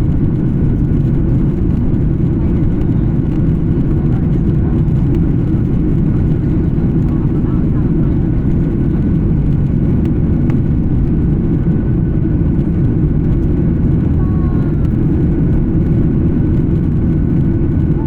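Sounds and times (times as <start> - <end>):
faint steady whine: 0.0 - 18.0
jet cabin engine noise: 0.0 - 18.0.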